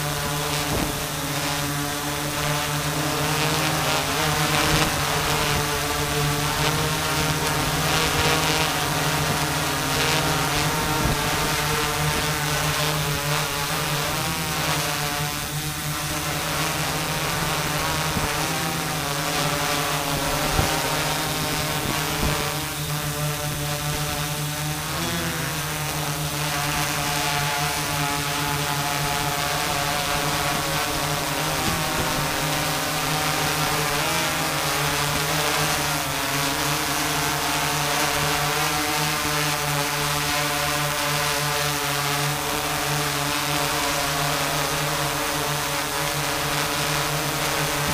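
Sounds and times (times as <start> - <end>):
drone propellers whirring: 0.0 - 47.9.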